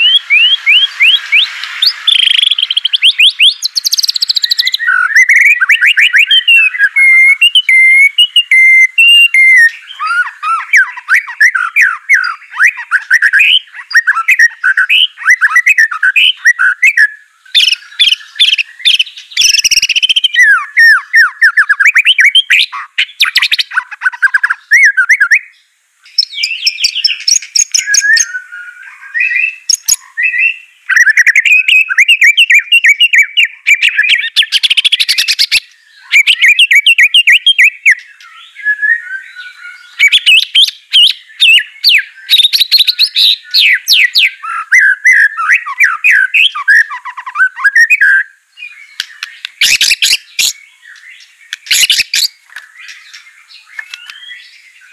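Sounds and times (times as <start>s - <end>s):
songbird singing varied phrases: 0.0s - 54.9s.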